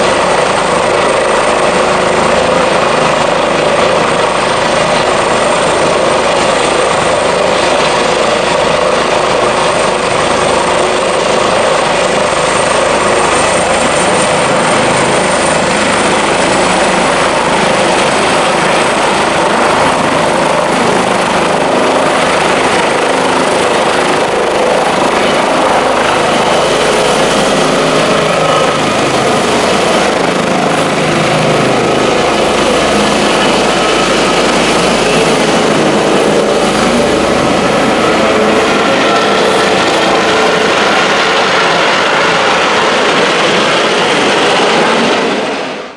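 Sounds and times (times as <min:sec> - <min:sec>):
helicopter rotor and turbine din: 0:00.0 - 0:45.9
high turbine whine: 0:00.0 - 0:45.9.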